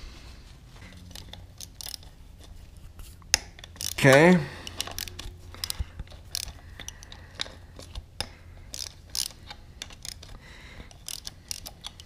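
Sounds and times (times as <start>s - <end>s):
socket wrench ratcheting: 0.9s - 2.6s, 3.3s - 12.0s.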